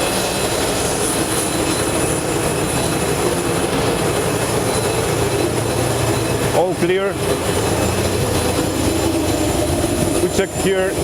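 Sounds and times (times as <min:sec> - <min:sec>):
aircraft turbine whine: 0:00.0 - 0:11.0.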